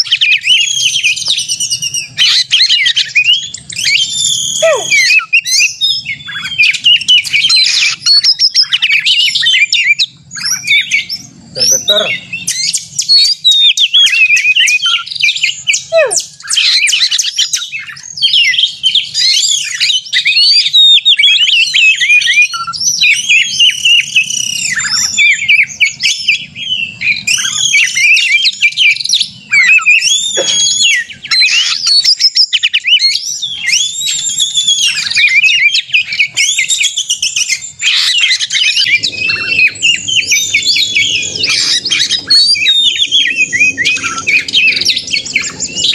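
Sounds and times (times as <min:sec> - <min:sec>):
bird singing whistles and chatter: 0:00.0 - 0:45.9.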